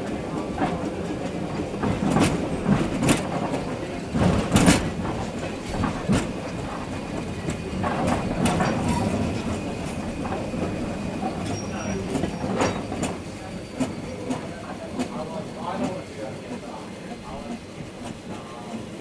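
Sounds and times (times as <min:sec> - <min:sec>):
train rumbling on track: 0:00.0 - 0:19.0
wheels clacking on track: 0:00.0 - 0:19.0.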